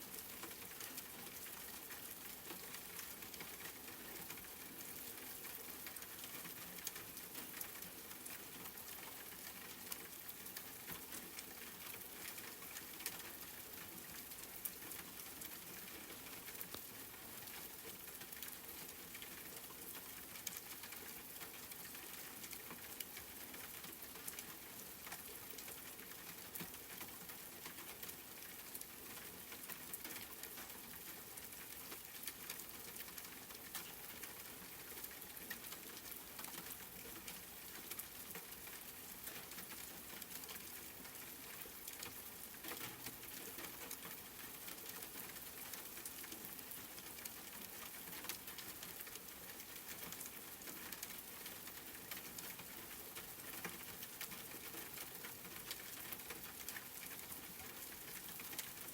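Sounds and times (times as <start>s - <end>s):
rain falling: 0.1s - 58.9s.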